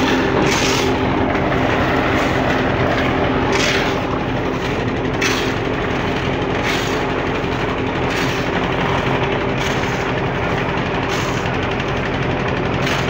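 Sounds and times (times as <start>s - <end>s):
shovel scraping gravel: 0.0s - 11.6s, 12.8s - 13.0s
steady machine hum: 0.0s - 13.0s.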